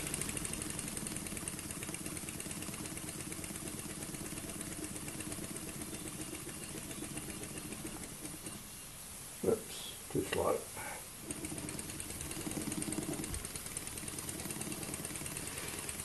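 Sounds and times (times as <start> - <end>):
model steam engine puffing: 0.0 - 8.7, 10.9 - 16.0.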